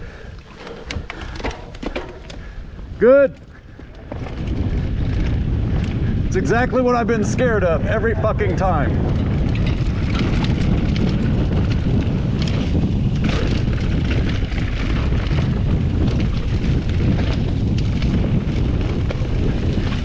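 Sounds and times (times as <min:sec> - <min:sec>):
bike clicks and rattles: 0:00.0 - 0:20.0
bike tyres rolling over dirt: 0:00.0 - 0:20.0
wind on microphone: 0:00.0 - 0:20.0.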